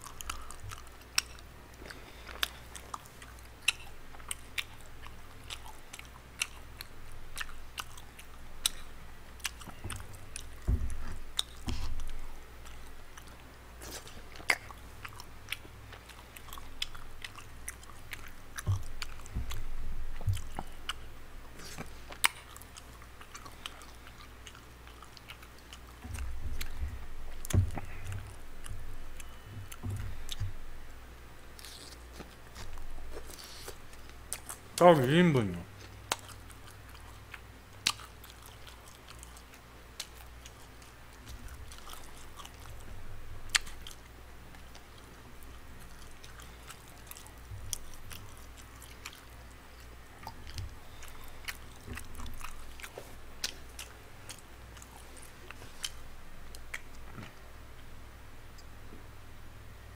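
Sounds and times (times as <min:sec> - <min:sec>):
person chewing food: 0:00.0 - 0:34.9, 0:35.7 - 0:57.5.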